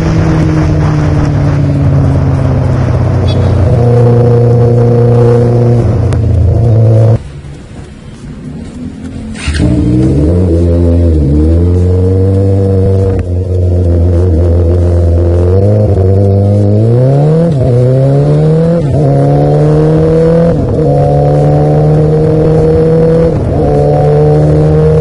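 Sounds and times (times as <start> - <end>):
motorcycle engine revving: 0.0 - 7.2, 8.9 - 25.0.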